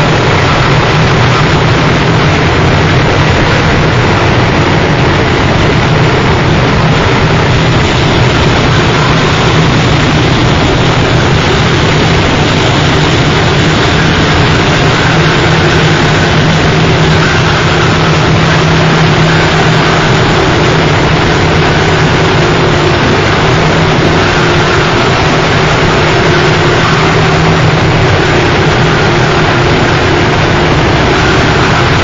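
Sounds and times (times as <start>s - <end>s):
distorted noise music: 0.0s - 32.0s
steady low hum: 0.0s - 32.0s.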